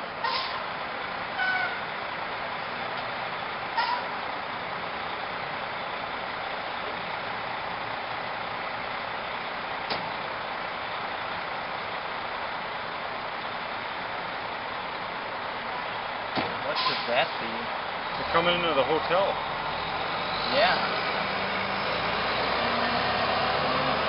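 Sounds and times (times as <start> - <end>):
truck engine idling: 0.0 - 20.2.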